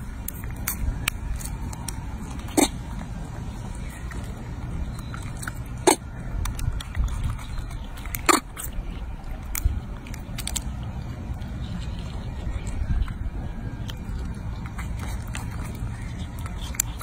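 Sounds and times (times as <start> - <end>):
monkey chewing fruit: 0.0 - 17.0
steady low rumble: 0.0 - 17.0.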